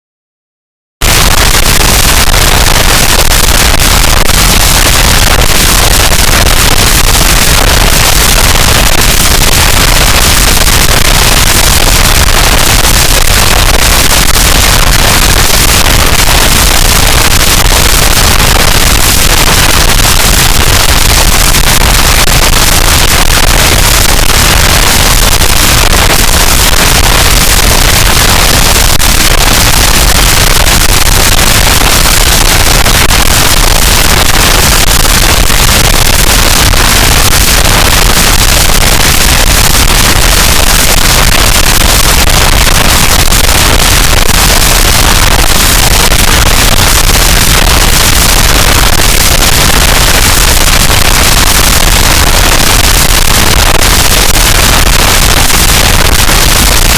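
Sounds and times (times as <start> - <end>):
loud distorted noise wall: 1.0 - 56.9.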